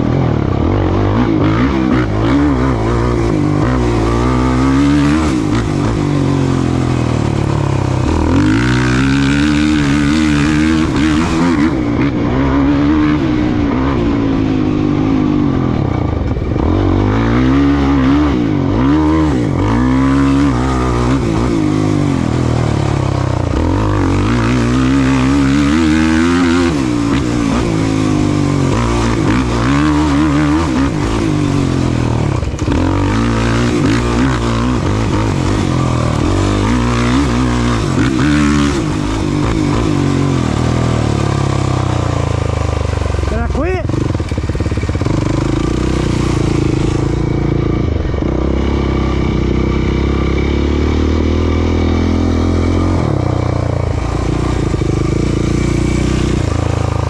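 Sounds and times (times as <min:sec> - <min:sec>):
race vehicle engine revving: 0:00.0 - 0:57.0.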